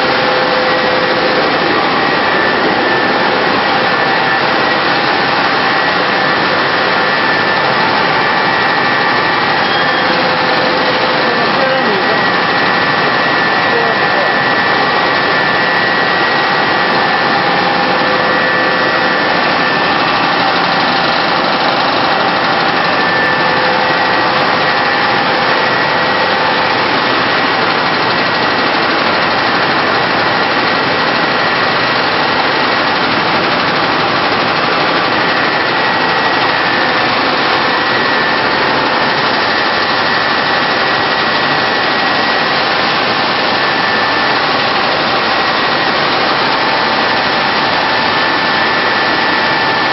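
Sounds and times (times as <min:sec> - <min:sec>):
faint steady whines: 0:00.0 - 0:49.8
fans and motors whirring: 0:00.0 - 0:49.9.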